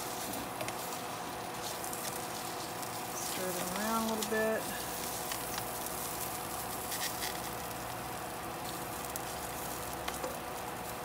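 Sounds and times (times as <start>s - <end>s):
faint steady hum: 0.0s - 11.0s
tofu sizzling in oil: 0.0s - 11.0s.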